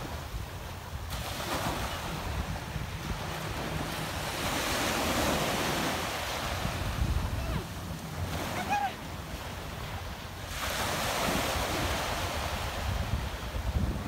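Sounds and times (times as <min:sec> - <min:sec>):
ocean waves breaking: 0:00.0 - 0:14.0
wind buffeting microphone: 0:00.0 - 0:14.0.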